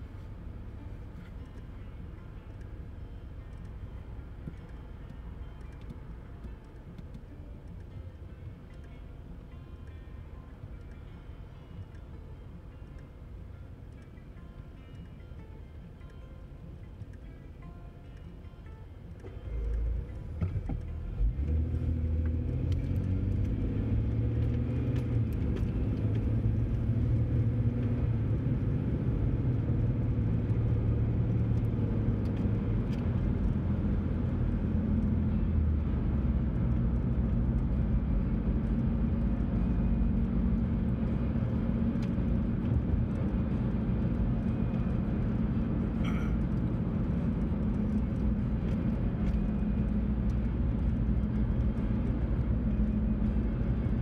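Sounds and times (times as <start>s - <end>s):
car engine rumble: 0.0s - 54.0s.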